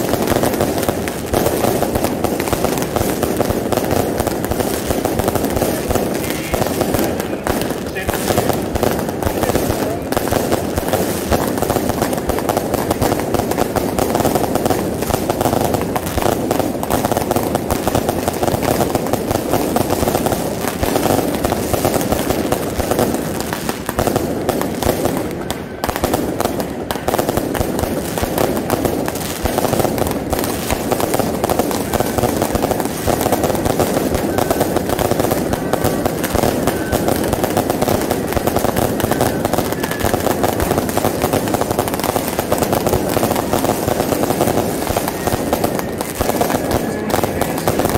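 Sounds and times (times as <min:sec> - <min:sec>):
fireworks crackling and banging: 0:00.0 - 0:47.9.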